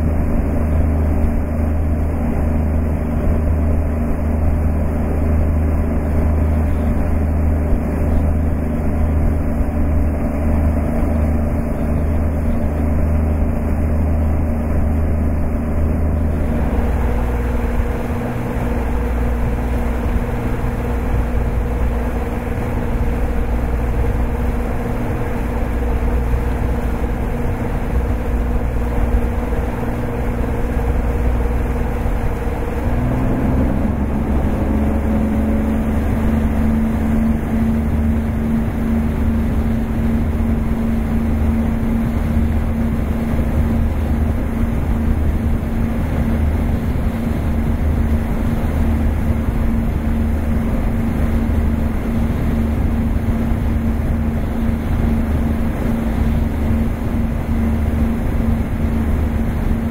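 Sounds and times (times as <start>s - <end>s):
boat motor rumble: 0.0s - 59.9s
low hums: 0.0s - 59.9s
water rushing along hull: 0.0s - 59.9s.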